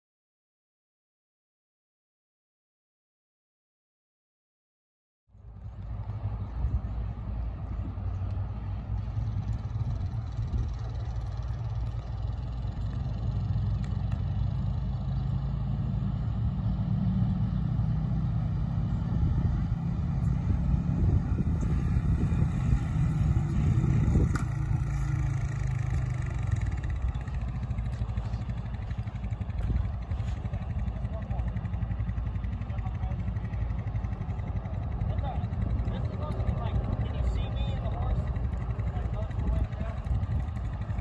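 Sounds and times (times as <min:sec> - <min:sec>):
atv engine running: 0:05.4 - 0:41.0.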